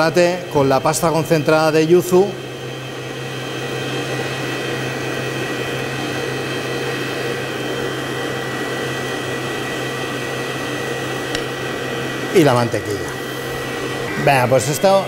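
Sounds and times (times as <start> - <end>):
stand mixer motor humming: 0.0 - 15.0.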